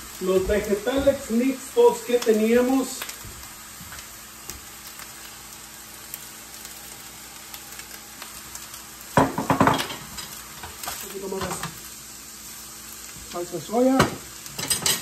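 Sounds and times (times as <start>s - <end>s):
rice and vegetables sizzling in a skillet: 0.0s - 15.0s.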